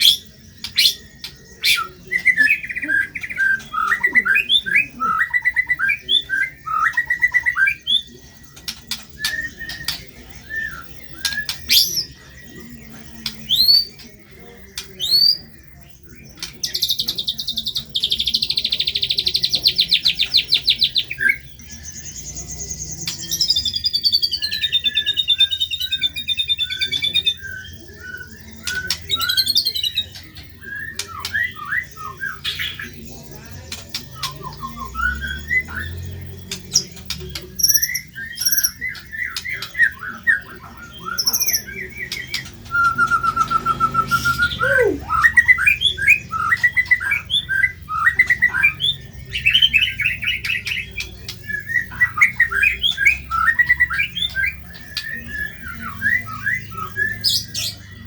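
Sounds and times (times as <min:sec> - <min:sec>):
songbird singing varied song: 0:00.0 - 0:58.0.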